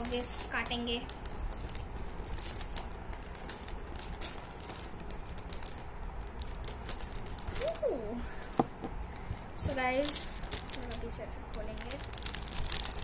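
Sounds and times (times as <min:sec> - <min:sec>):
foil bag crinkling: 0:00.0 - 0:13.0.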